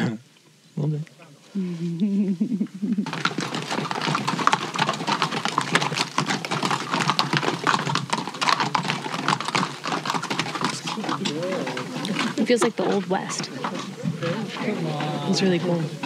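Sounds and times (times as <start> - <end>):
hooves clopping on trail: 3.0 - 16.0.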